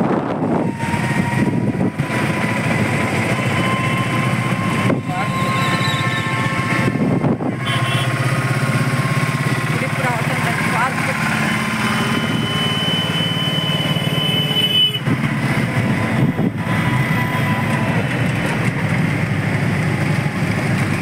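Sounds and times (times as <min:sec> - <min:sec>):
auto-rickshaw engine running: 0:00.0 - 0:21.0
road noise: 0:00.0 - 0:21.0.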